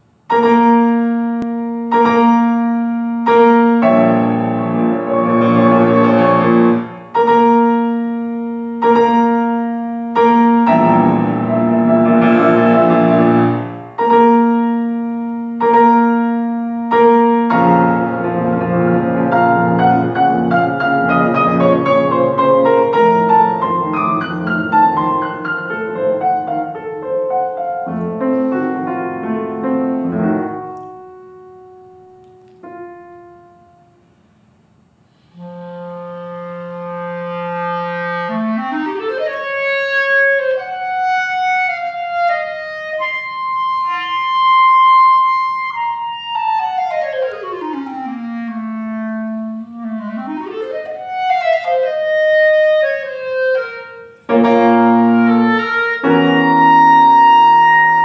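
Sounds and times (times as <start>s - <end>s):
grand piano: 0.0s - 58.0s
solo clarinet: 0.3s - 33.9s, 35.1s - 58.0s.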